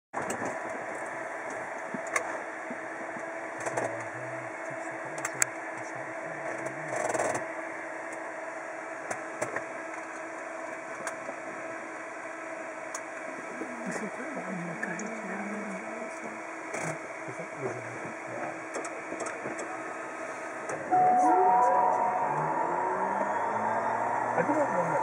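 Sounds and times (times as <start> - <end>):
aircraft cabin mechanical hum: 0.2 - 25.0.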